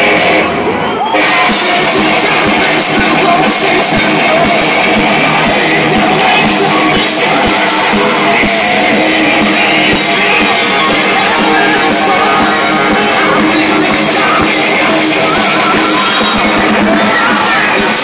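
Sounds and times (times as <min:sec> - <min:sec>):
distorted electric guitar: 0:00.0 - 0:18.0
heavy metal band playing: 0:00.0 - 0:18.0.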